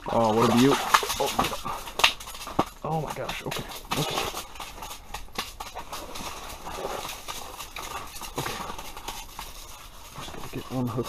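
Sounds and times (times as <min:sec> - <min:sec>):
fish flopping on ice: 0:00.0 - 0:11.0.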